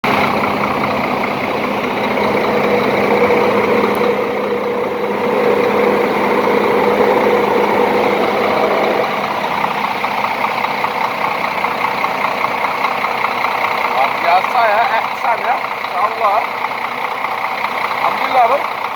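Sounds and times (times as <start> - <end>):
diesel bus engine idling: 0.0 - 18.9.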